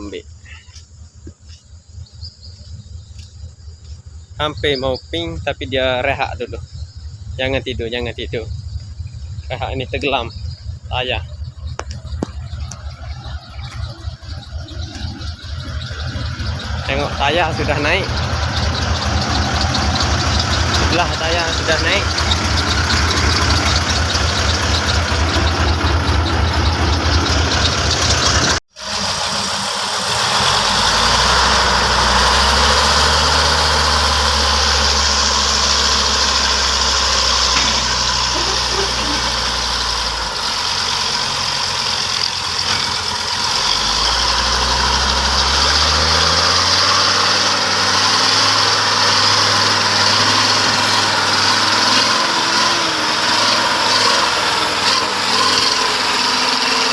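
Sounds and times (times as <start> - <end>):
diesel truck engine idling and revving: 0.0 - 56.9.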